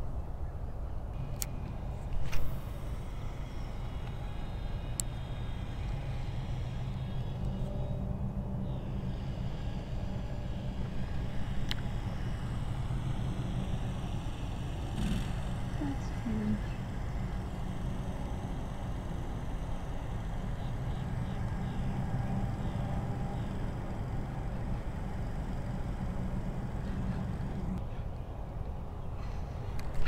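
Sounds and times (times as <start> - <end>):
low outdoor rumble: 0.0 - 30.0.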